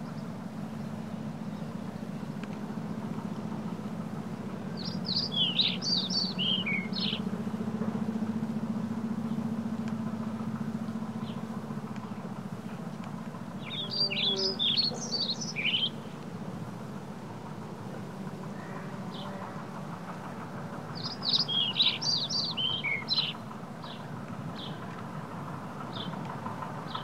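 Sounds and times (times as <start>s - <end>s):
low hum of e-bike: 0.0s - 27.0s
songbird chirping: 0.0s - 27.0s.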